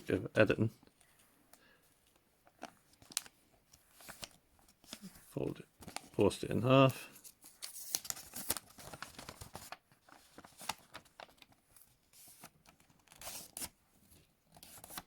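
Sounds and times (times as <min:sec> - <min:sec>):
paper crinkling and rustling: 0:02.0 - 0:15.0.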